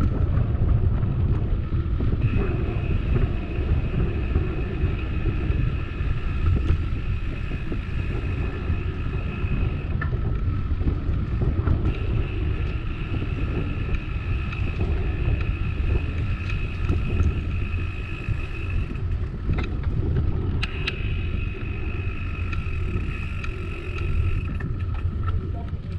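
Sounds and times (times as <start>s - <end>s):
bicycle tyre rumble on concrete: 0.0s - 25.9s
wind on microphone: 0.0s - 25.9s
steady high buzz: 2.1s - 25.3s.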